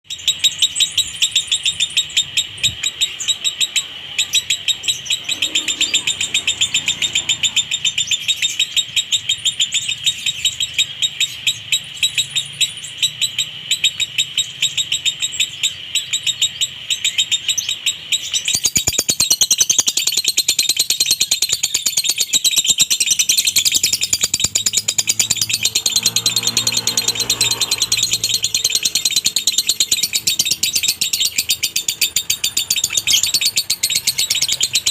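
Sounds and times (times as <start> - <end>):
lovebird chattering song: 0.1 - 34.9.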